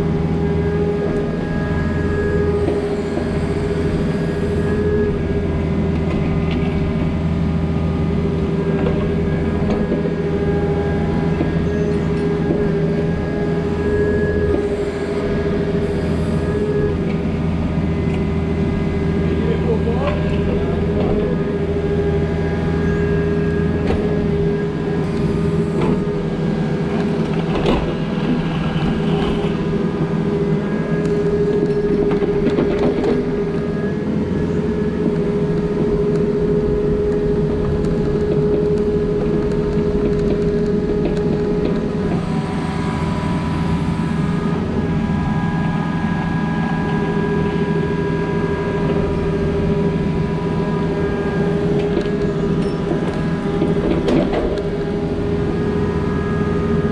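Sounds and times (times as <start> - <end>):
excavator diesel engine running: 0.0 - 56.9
steady whine: 0.0 - 56.9.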